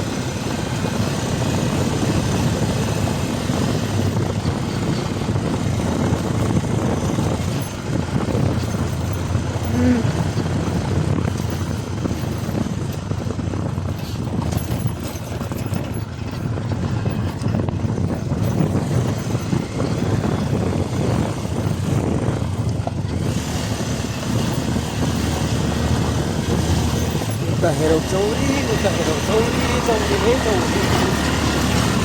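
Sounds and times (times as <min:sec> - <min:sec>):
motorcycle engine running: 0:00.0 - 0:32.0
wind buffeting microphone: 0:00.0 - 0:32.0.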